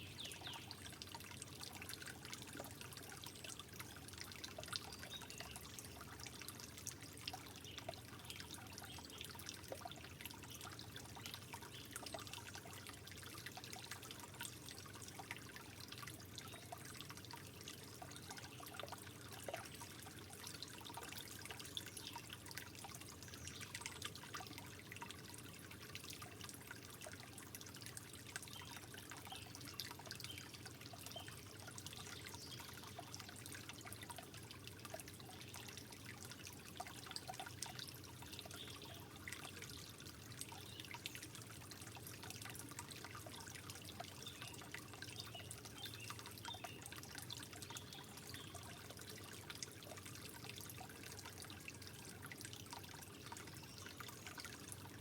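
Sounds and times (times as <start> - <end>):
trickling water: 0.0 - 55.0
water drips and splashes: 0.0 - 55.0.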